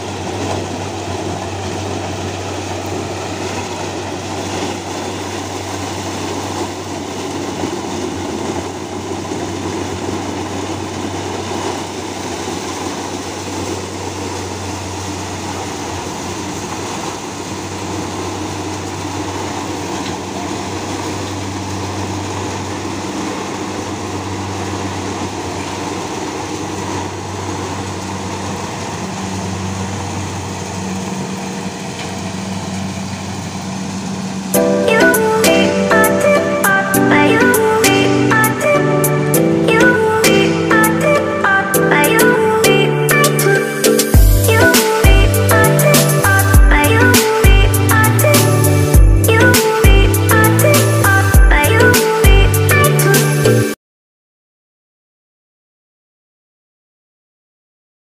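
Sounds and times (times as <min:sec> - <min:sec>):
combine harvester engine hum: 0:00.0 - 0:53.2
working machinery noise: 0:00.0 - 0:53.2.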